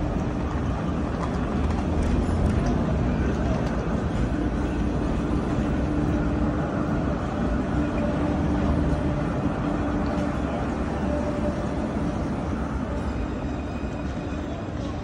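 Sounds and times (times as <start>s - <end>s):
street noise: 0.0s - 15.0s
tram electrical hum: 0.0s - 15.0s.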